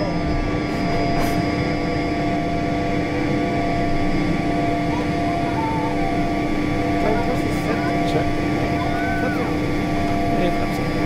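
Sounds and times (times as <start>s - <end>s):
jet engines humming: 0.0s - 11.0s
steady whining tones: 0.0s - 11.0s.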